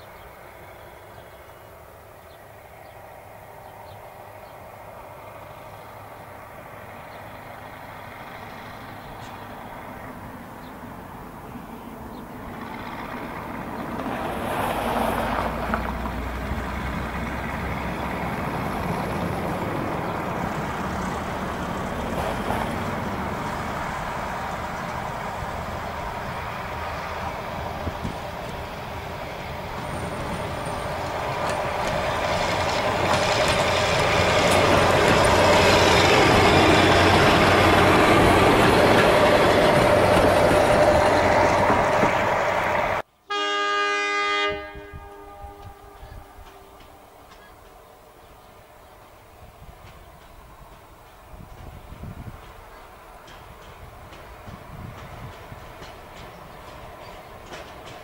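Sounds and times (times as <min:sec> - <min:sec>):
railcar diesel engine passing: 0:00.0 - 0:58.0.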